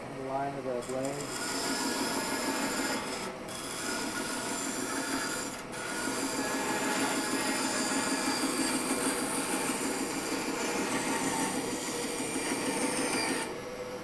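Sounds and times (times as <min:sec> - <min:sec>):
bandsaw cutting wood: 0:00.8 - 0:13.6.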